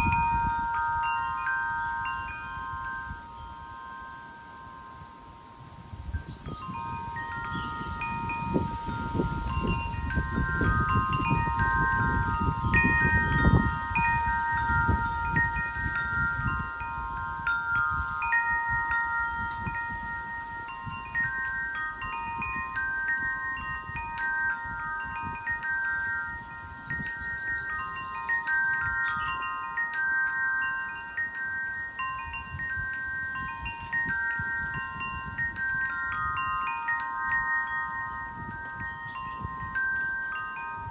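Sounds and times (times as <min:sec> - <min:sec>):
low wind rumble: 0:00.0 - 0:40.9
wind chimes ringing: 0:00.0 - 0:40.9.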